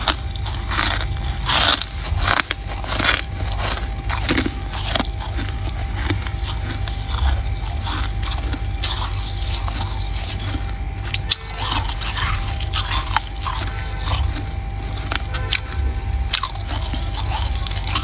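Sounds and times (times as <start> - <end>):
frost crunching: 0.0 - 18.0
low hum: 0.0 - 18.0.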